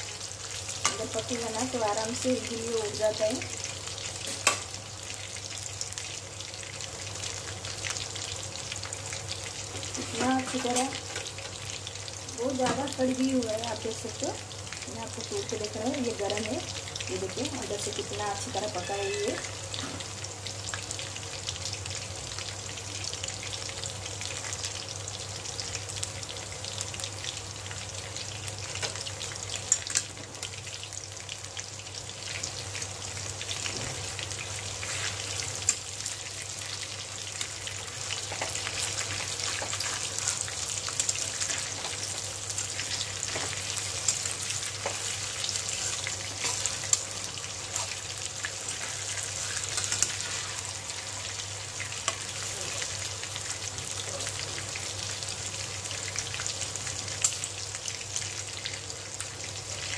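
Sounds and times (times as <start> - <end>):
deep-frying sizzle with crackles: 0.0 - 59.9.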